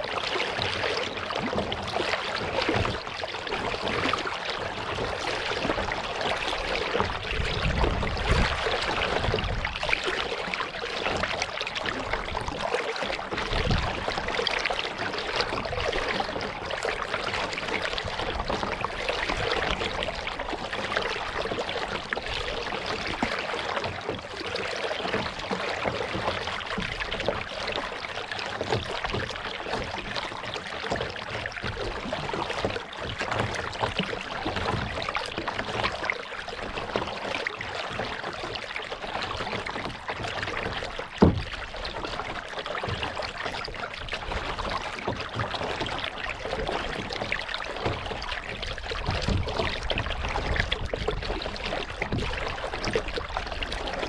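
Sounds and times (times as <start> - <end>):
paddle splashing water: 0.0 - 54.0.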